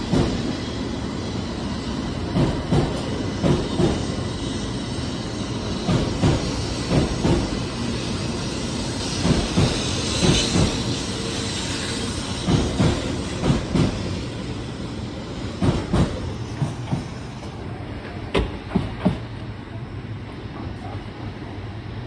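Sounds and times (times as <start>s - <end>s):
train wheels clacking on track: 0.0s - 19.5s
train rushing hiss: 0.0s - 22.0s.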